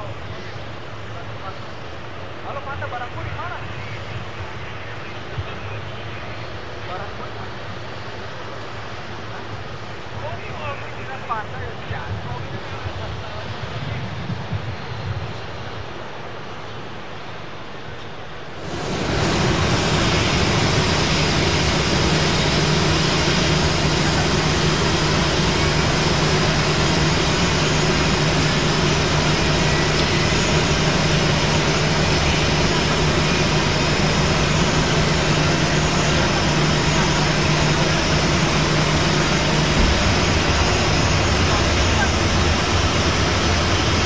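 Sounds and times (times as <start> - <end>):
jet engines running: 0.0 - 44.0.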